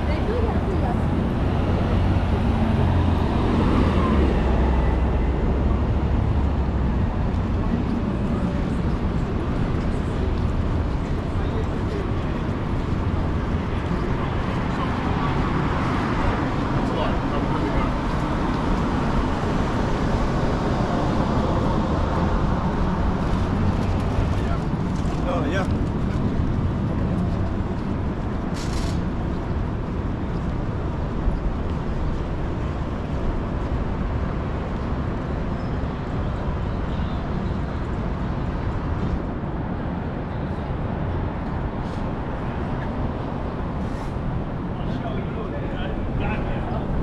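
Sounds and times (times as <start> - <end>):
road noise: 0.0 - 47.0
vehicle engines rumbling: 0.0 - 47.0.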